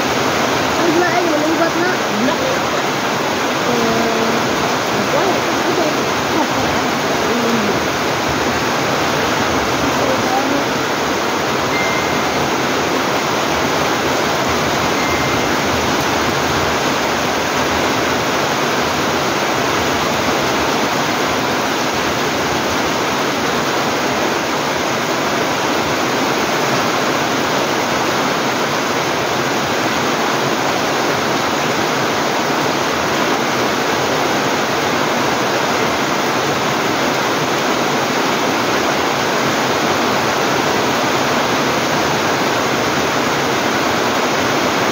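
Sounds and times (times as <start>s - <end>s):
heavy rain on foliage and roof: 0.0s - 44.9s.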